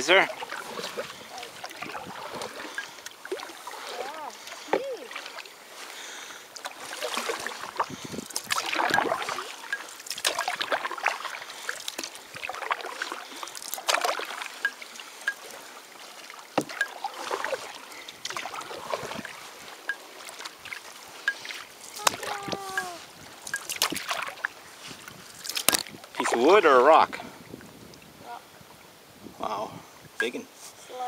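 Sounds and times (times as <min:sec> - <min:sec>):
water splashing around canoe: 0:00.0 - 0:28.8
water dripping: 0:00.2 - 0:05.5, 0:06.1 - 0:26.4.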